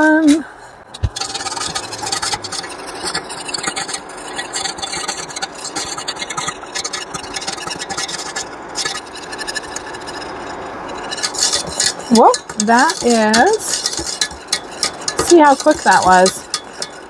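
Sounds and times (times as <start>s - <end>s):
whisk scraping a saucepan: 1.0s - 17.0s.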